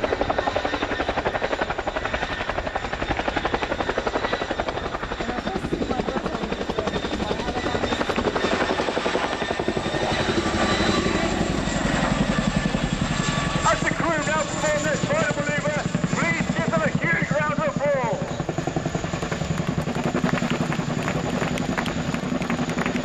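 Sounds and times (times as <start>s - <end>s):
helicopter rotors chopping: 0.0s - 23.0s
turboshaft engine whine: 0.0s - 23.0s.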